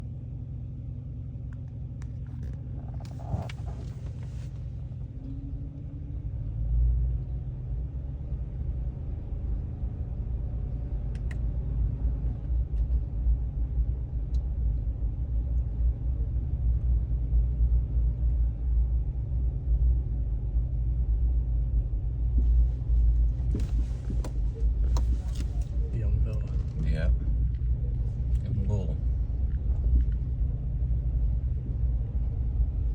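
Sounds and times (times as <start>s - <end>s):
low steady rumble: 0.0s - 32.9s.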